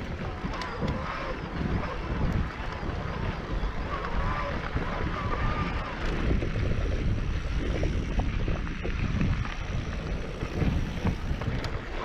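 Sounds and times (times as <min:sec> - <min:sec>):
mountain bike rattling on trail: 0:00.0 - 0:12.0
wind buffeting microphone: 0:00.0 - 0:12.0.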